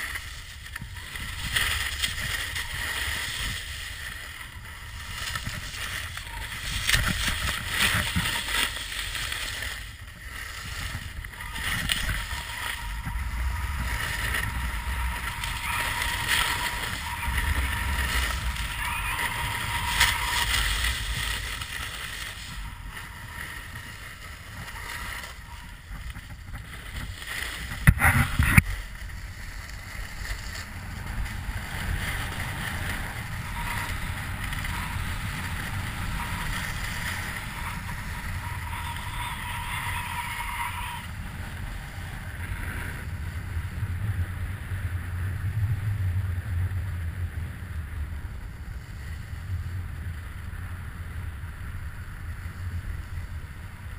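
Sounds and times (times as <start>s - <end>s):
snowboard carving over snow: 0.0s - 53.9s
wind rushing over microphone: 0.0s - 53.9s.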